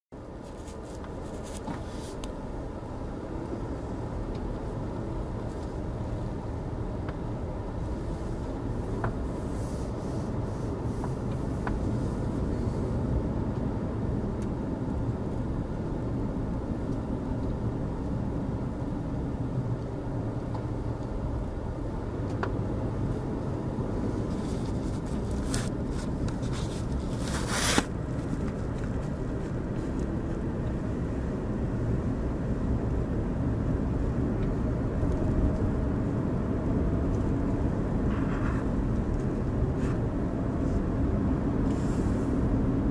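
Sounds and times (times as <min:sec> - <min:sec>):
car road and engine rumble: 0:00.1 - 0:42.9.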